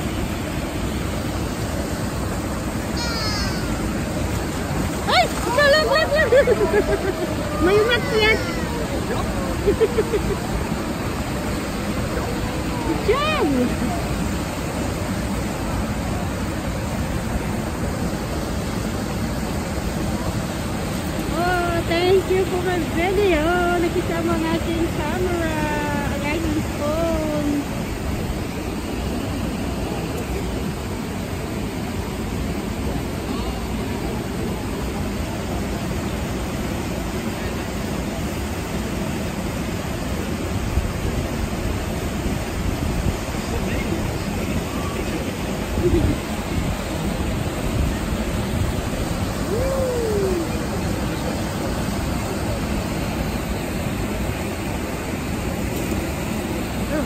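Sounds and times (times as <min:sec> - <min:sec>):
river flowing over rocks: 0:00.0 - 0:57.0
water rushing over spillway: 0:00.0 - 0:57.0.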